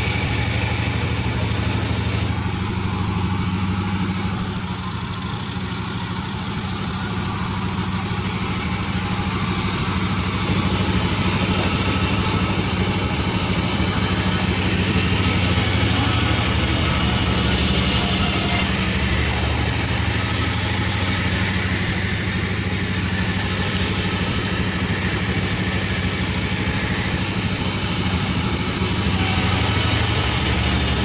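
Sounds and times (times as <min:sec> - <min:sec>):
engine hum: 0:00.0 - 0:31.0
saw cutting: 0:00.0 - 0:31.0.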